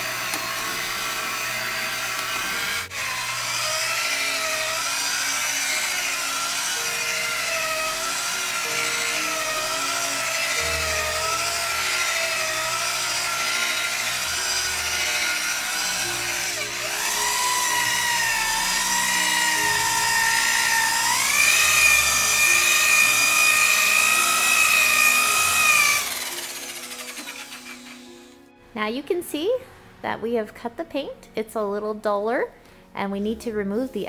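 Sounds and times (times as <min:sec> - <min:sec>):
rotary buffer motor whine: 0:00.0 - 0:28.4.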